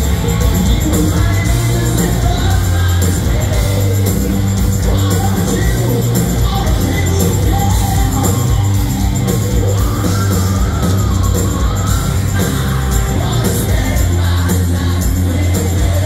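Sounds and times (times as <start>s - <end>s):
hard rock band playing live: 0.0s - 16.0s
person singing: 0.0s - 16.0s.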